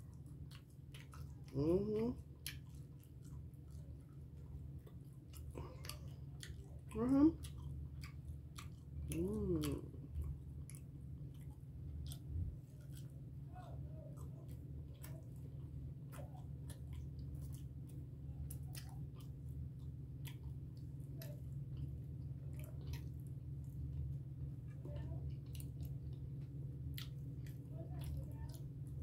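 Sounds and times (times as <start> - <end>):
person chewing food: 0.0 - 29.0
steady low hum: 0.0 - 29.0.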